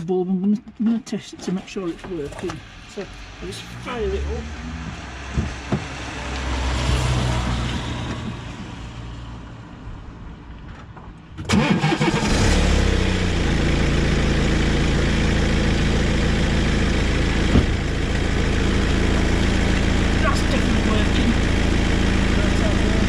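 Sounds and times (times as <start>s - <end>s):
car engine starting and idling: 1.6s - 9.0s, 11.3s - 23.0s.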